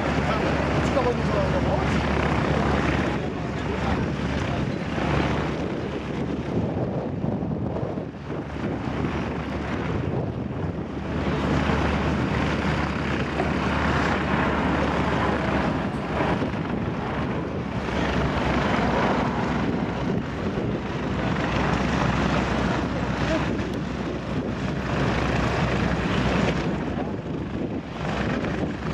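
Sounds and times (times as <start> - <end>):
jet airliner roar: 0.0 - 28.9.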